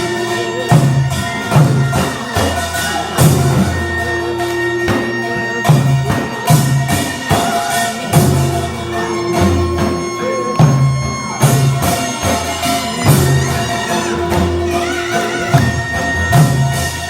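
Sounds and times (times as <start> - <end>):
percussion striking steady beat: 0.0 - 17.0
reed wind instrument long notes: 0.0 - 17.0.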